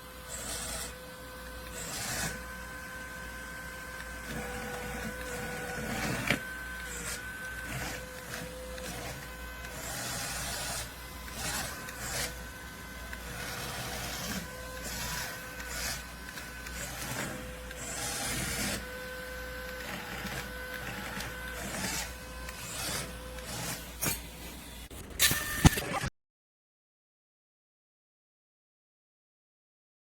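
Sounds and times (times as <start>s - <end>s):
small electric motors whirring: 0.0s - 26.0s.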